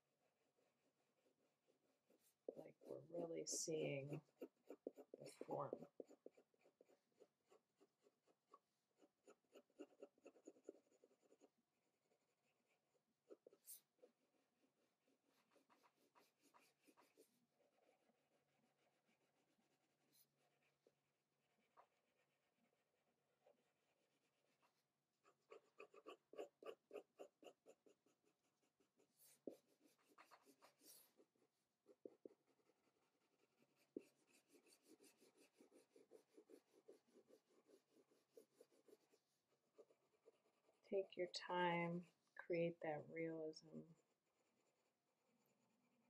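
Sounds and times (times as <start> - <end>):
pencil scratching on paper: 0.0 - 40.8.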